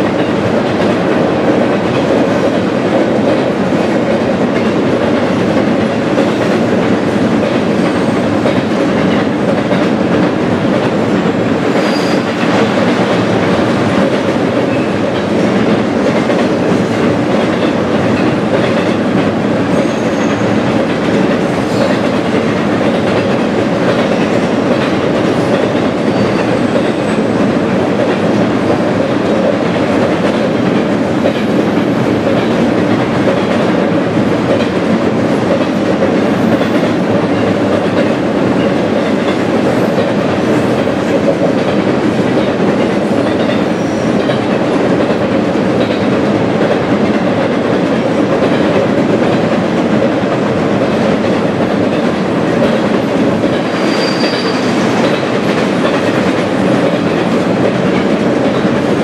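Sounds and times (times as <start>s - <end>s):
freight train rolling across steel trestle: 0.0s - 59.0s.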